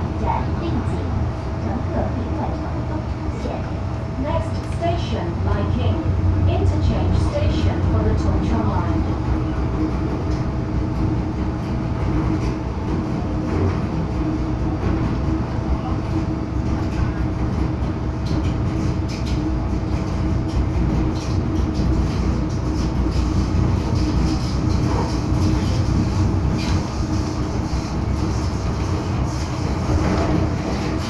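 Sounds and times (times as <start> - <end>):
steady hum: 0.0 - 30.0
train wheels rumbling on rails: 0.0 - 31.0.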